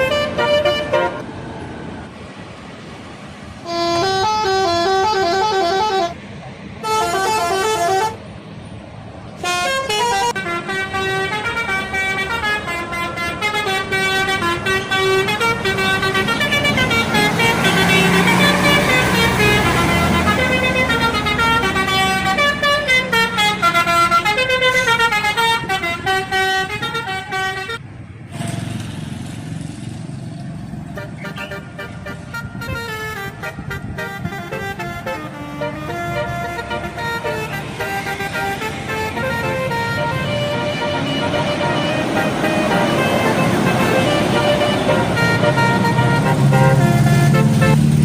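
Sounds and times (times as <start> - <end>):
bus horn playing a tune: 0.0 - 1.2, 3.6 - 6.2, 6.8 - 8.3, 9.3 - 27.8, 30.9 - 48.0
bus engine: 0.0 - 48.0
road noise: 0.0 - 48.0.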